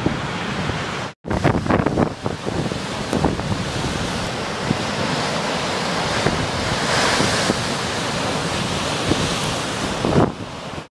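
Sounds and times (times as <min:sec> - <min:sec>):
surf breaking on rocky shore: 0:00.0 - 0:10.9
wind buffeting microphone: 0:00.0 - 0:10.9
waves thudding against rock: 0:00.7 - 0:10.9.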